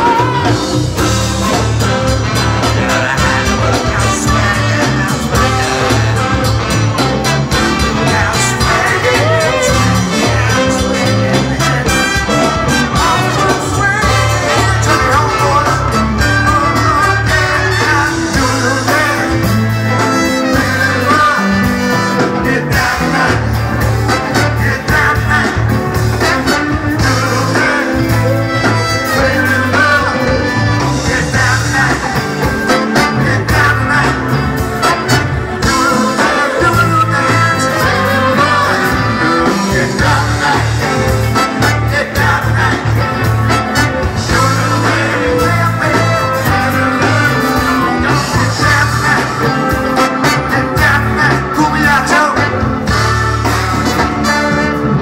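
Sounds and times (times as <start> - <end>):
congas: 0.0 - 55.0
drum kit: 0.0 - 55.0
horn section: 0.0 - 55.0
person singing: 0.0 - 55.0
repeating bass line: 0.0 - 55.0.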